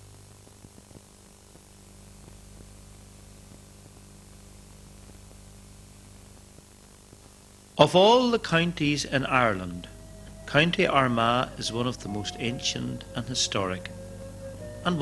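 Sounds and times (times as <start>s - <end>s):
faint hiss and low hum: 0.0s - 15.0s.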